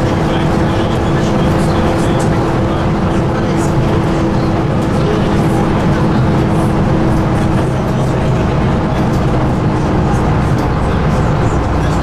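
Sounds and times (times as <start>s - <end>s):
bus engine hum: 0.0s - 12.0s.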